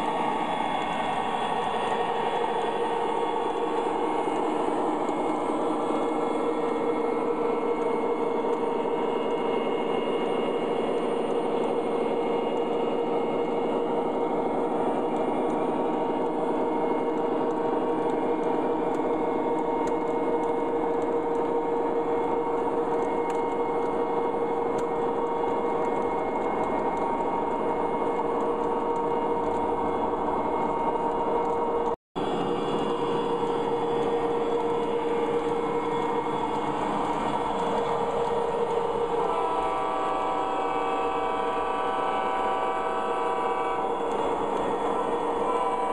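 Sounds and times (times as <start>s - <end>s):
electronic diesel engine drone: 0.0s - 45.9s
model train wheels rolling on track: 0.0s - 45.9s.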